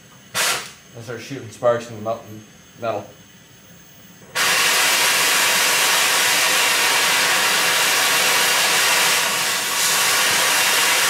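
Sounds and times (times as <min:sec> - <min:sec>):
cutting torch hissing: 0:00.3 - 0:03.0, 0:03.8 - 0:11.0.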